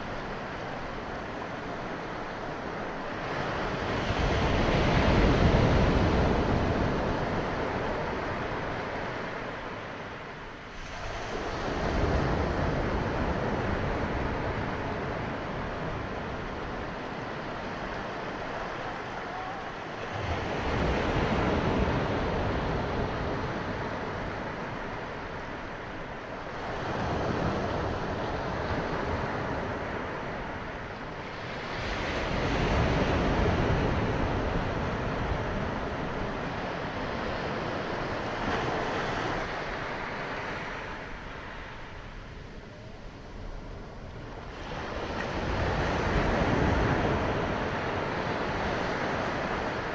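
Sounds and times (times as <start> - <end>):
small waves breaking on beach: 0.0 - 49.9.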